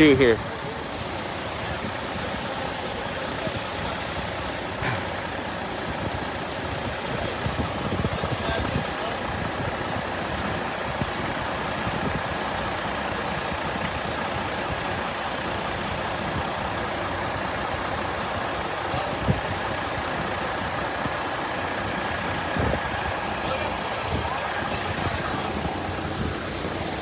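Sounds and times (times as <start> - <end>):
vehicle engine idling: 0.0 - 27.0
water gushing from hydrant: 0.0 - 27.0.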